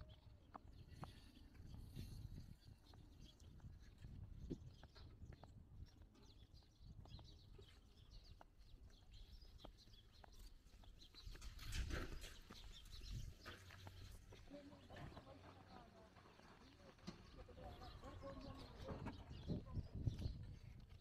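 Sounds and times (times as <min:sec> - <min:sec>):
soft footsteps on dirt: 0:00.0 - 0:21.0.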